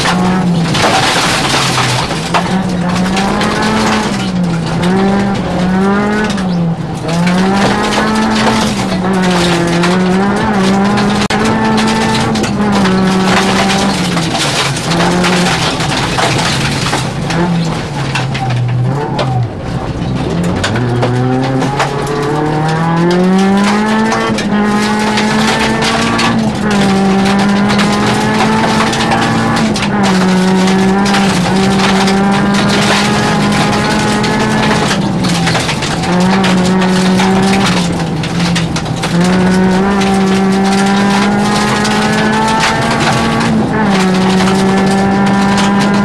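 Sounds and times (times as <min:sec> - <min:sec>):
knocks and rattles from car: 0:00.0 - 0:46.0
rally car engine revving: 0:00.0 - 0:46.0.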